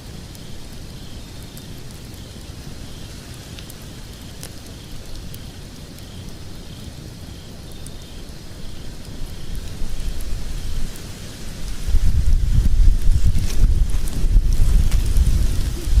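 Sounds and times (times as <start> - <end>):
fire hiss and low rumble: 0.0 - 16.0
wood fire crackling: 0.0 - 16.0.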